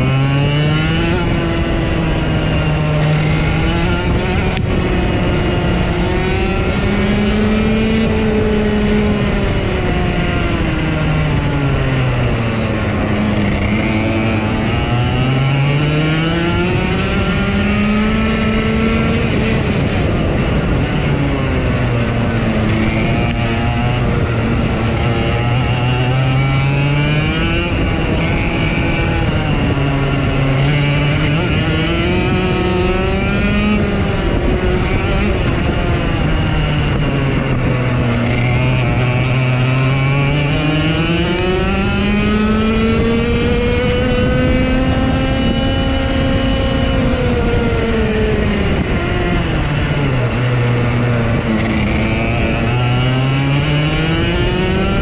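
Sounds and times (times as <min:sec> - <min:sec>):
race car engines: 0:00.0 - 0:55.0.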